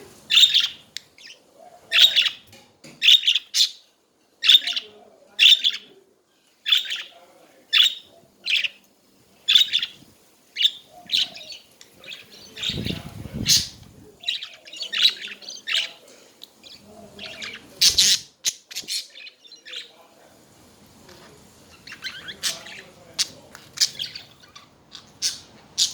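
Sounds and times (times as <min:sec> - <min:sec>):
budgerigars chirping: 0:00.3 - 0:05.9, 0:06.7 - 0:08.8, 0:09.5 - 0:10.0, 0:10.6 - 0:16.0, 0:16.6 - 0:20.0, 0:21.6 - 0:25.9.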